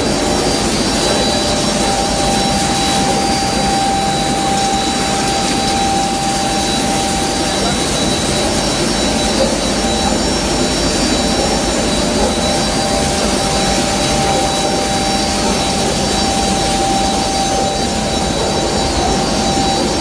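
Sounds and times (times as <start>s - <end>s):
grinding mill air rush: 0.0s - 20.0s
grinding mill whine: 0.0s - 20.0s.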